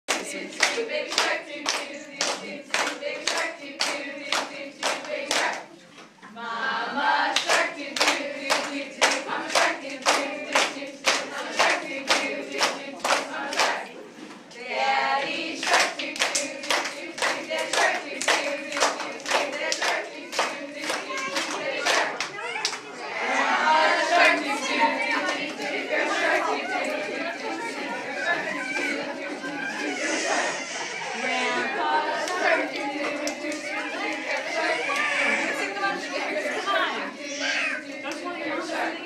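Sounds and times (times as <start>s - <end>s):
group clapping in rhythm: 0.1s - 5.8s, 6.6s - 14.0s, 14.6s - 30.0s, 31.3s - 37.1s, 37.9s - 39.0s
voices singing along: 0.1s - 39.0s.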